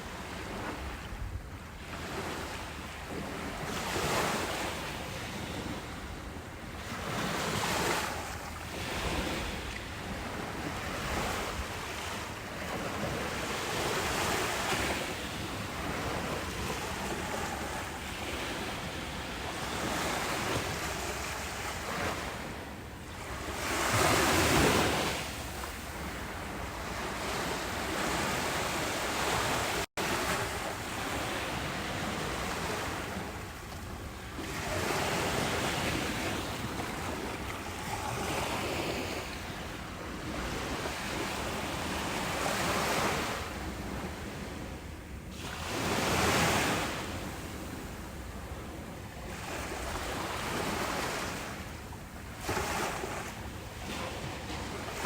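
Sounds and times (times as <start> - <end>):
ocean waves washing onto beach: 0.0 - 55.0.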